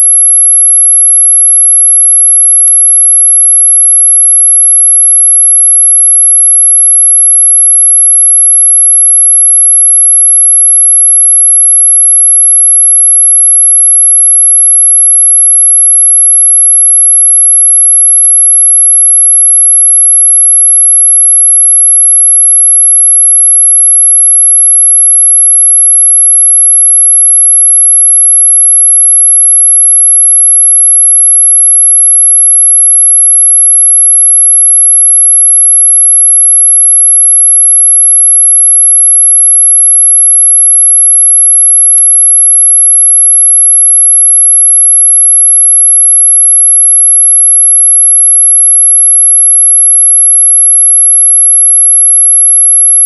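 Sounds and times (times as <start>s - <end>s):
high-pitched sine tone: 0.0s - 53.0s.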